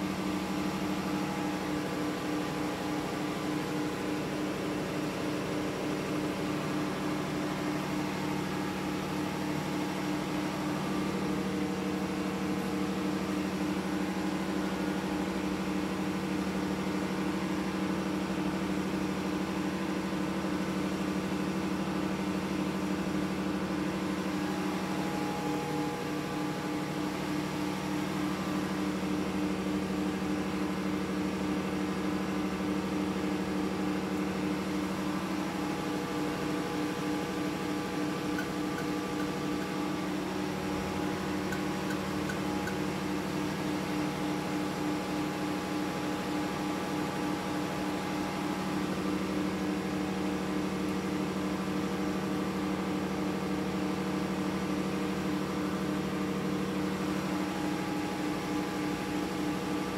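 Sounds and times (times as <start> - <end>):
engine-room machinery drone: 0.0 - 59.9.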